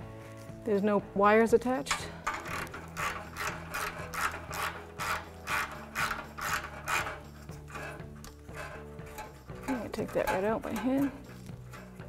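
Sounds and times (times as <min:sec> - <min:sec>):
ratcheting wrench clicking: 0:01.9 - 0:12.0.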